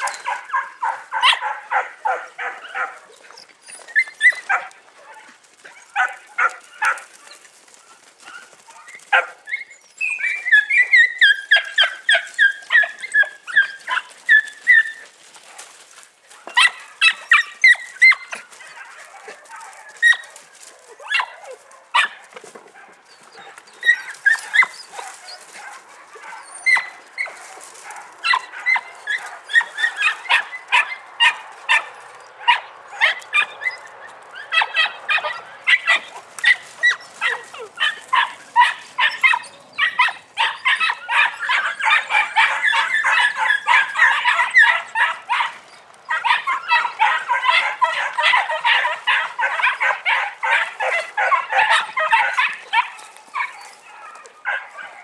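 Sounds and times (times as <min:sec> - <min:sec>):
puppies barking and yelping: 0:00.0 - 0:55.0.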